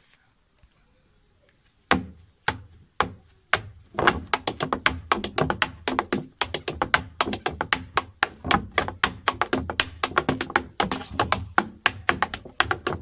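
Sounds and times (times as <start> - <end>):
hard shoes striking wood: 1.9 - 13.0
step dancing on wooden board: 1.9 - 13.0.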